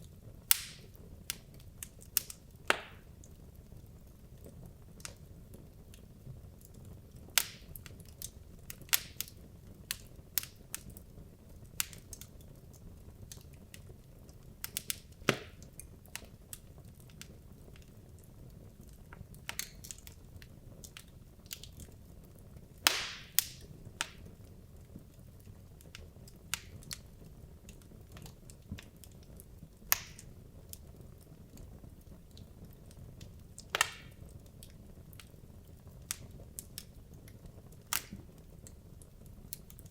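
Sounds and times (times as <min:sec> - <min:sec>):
faint hiss of flames: 0:00.0 - 0:39.9
wood fire crackling and popping: 0:00.0 - 0:39.9.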